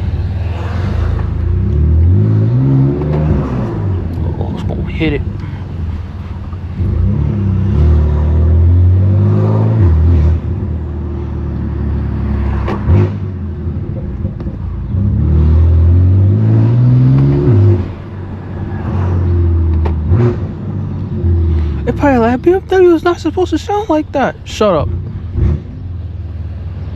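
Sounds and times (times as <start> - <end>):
car engine accelerating hard: 0.0 - 25.8.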